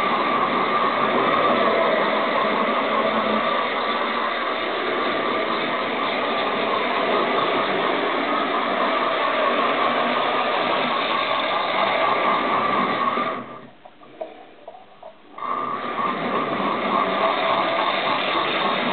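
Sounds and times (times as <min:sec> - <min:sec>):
model train motor whirring: 0:00.0 - 0:14.4, 0:15.0 - 0:18.9.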